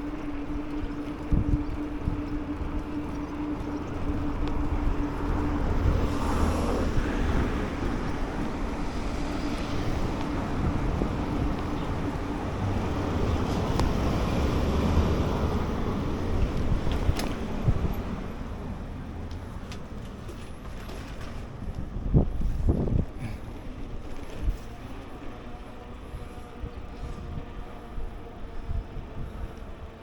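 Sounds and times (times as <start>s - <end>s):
wind and road rumble: 0.0s - 30.0s.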